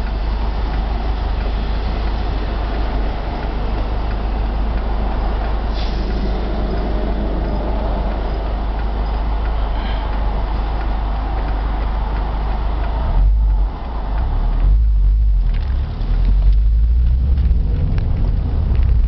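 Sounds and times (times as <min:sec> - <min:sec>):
road and tyre noise: 0:00.0 - 0:19.0
wheel bearing noise: 0:00.0 - 0:19.0.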